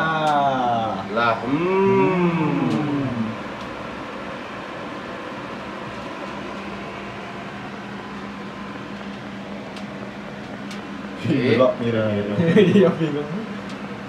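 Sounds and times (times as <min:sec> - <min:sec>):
extractor fan running: 0:00.0 - 0:14.0.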